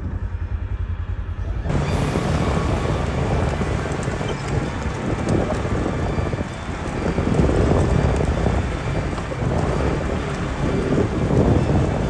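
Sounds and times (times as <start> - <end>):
wind buffeting microphone: 1.4 - 12.0.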